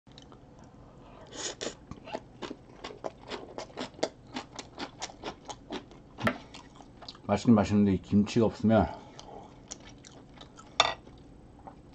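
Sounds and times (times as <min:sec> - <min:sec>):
crunchy wet chewing: 0:00.1 - 0:07.3, 0:09.0 - 0:11.9.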